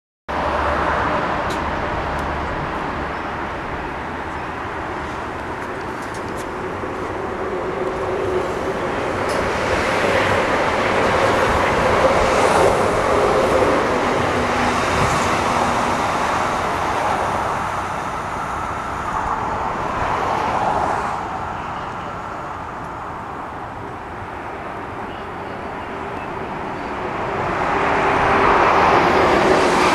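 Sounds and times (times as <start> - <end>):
light rail train passing: 0.3 - 29.9.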